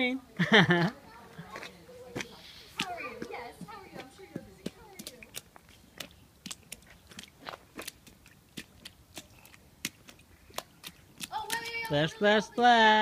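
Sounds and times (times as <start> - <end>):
footsteps on gritty pavement: 1.3 - 12.6.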